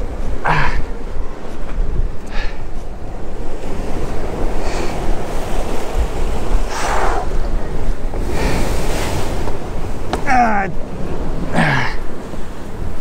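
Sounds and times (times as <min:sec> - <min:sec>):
ocean surf washing among boulders: 0:00.0 - 0:13.0
wind rumbling on microphone: 0:00.0 - 0:13.0.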